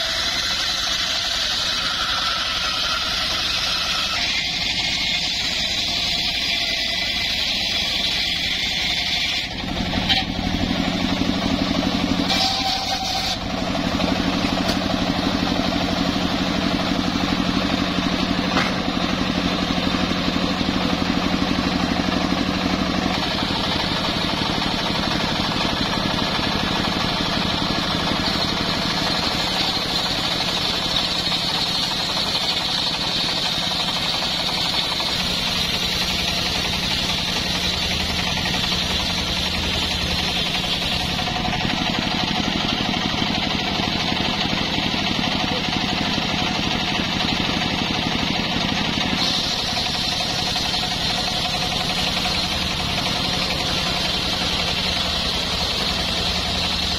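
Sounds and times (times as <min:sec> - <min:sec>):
circular sawmill cutting wood: 0:00.0 - 0:56.9.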